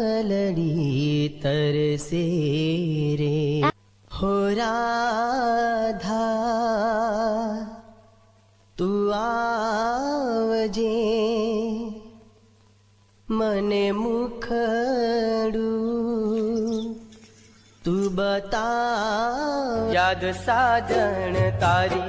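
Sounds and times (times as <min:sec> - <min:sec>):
person singing mournful song: 0:00.0 - 0:08.0, 0:08.8 - 0:12.2, 0:13.3 - 0:17.2, 0:17.8 - 0:22.0.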